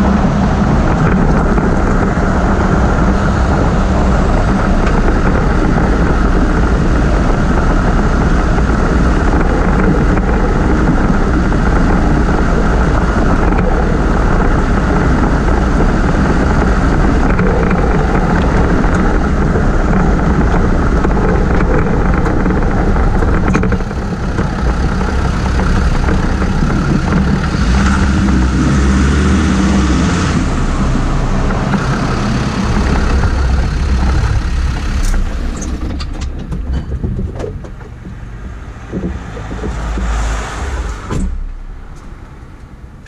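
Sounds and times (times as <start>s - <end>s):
road and tyre rumble: 0.0s - 43.0s
running gear knocks and rattles: 0.9s - 28.6s, 30.4s - 40.5s.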